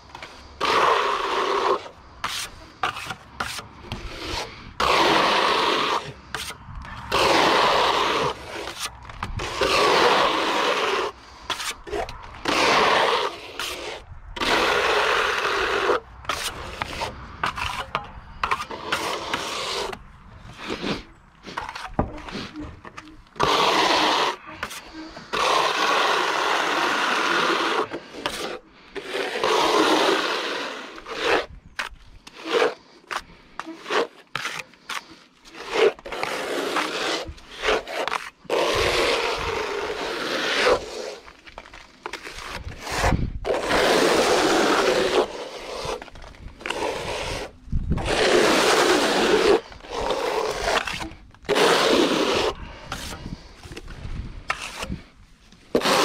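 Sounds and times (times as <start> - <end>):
trowel scraping render on wall: 0.0 - 56.0.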